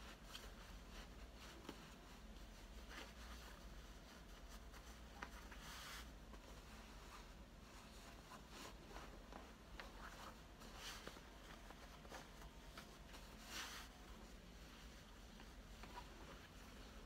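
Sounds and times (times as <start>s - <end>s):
cloth rustling: 0.0s - 17.0s.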